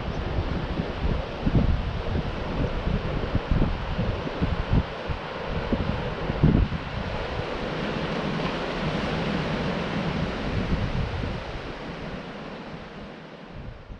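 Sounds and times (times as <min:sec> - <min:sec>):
surf washing on a beach: 0:00.0 - 0:13.9
wind buffeting microphone: 0:00.0 - 0:13.9.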